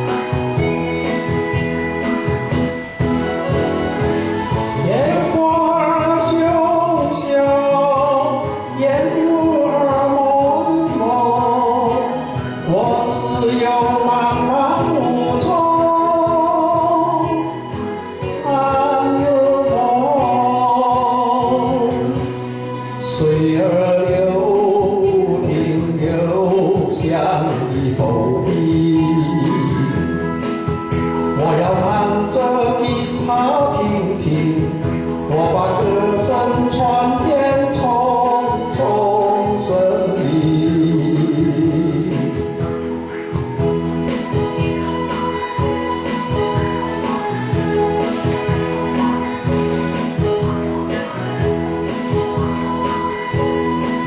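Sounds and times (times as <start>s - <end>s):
instrumental accompaniment: 0.0s - 54.0s
man singing: 2.9s - 54.0s.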